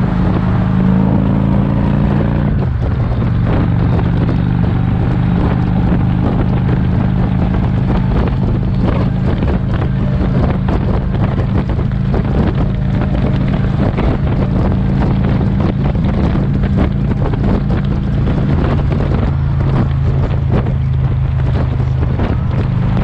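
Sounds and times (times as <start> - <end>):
motorcycle engine cruising: 0.0 - 23.0
wind buffeting microphone: 0.0 - 23.0.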